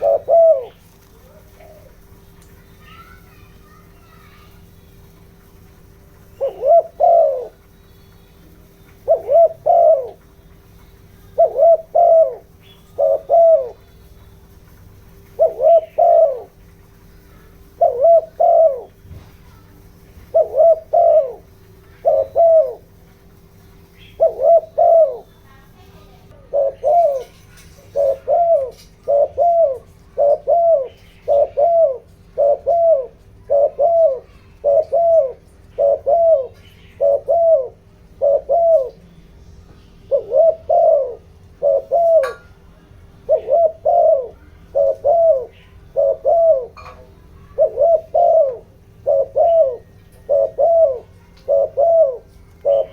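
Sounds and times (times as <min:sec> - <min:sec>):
dove cooing: 0:00.0 - 0:39.1, 0:40.0 - 0:52.9
faint steady hum: 0:00.0 - 0:52.9.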